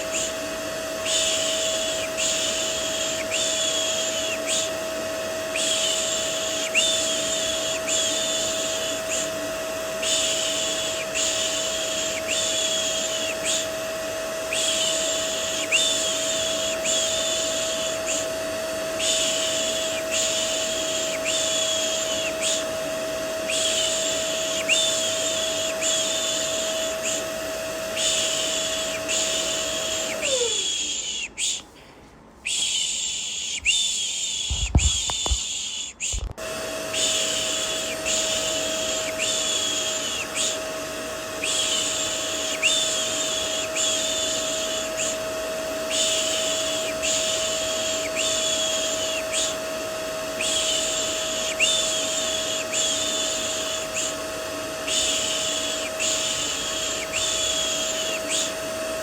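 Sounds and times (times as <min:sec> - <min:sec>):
vacuum cleaner motor humming: 0:00.0 - 0:31.8, 0:32.4 - 0:59.0.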